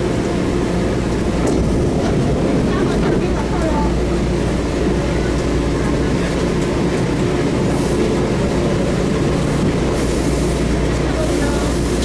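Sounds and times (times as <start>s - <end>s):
train humming and rumbling: 0.0s - 12.0s.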